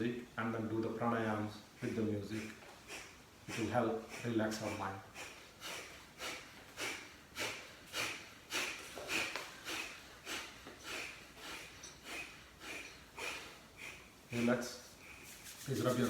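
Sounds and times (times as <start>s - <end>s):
forceful nasal exhalations: 1.8s - 15.4s.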